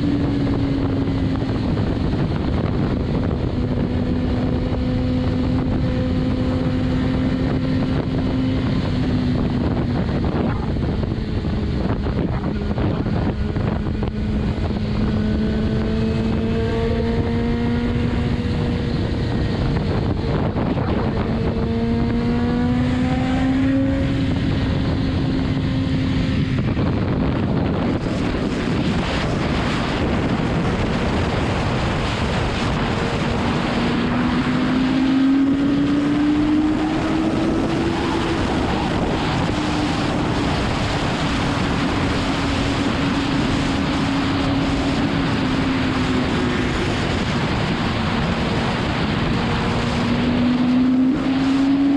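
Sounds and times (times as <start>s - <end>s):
motorcycle engine at speed: 0.0s - 51.9s
wind rushing over microphone: 0.0s - 51.9s.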